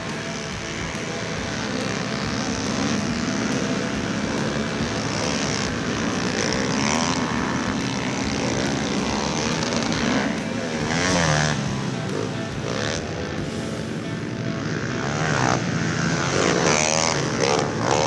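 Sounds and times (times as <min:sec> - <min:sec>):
small motorbike engines revving: 0:00.0 - 0:18.0.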